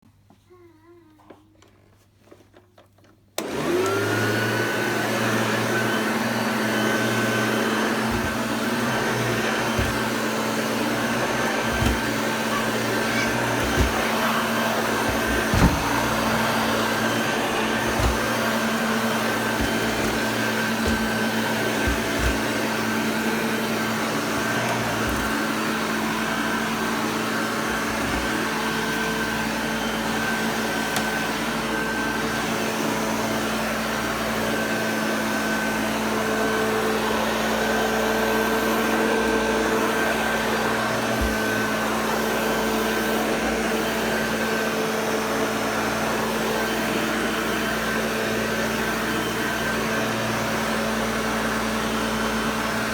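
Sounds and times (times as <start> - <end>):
vacuum cleaner running: 3.4 - 52.9.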